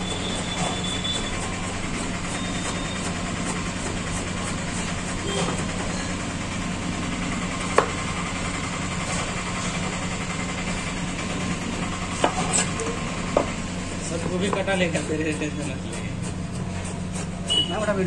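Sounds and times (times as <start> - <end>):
engine-like hum: 0.0 - 18.0.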